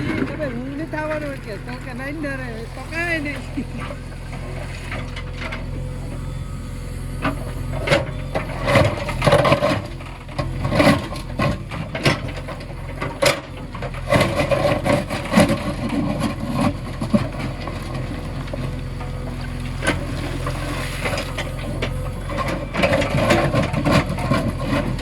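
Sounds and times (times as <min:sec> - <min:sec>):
low engine-like hum: 0:00.0 - 0:25.0.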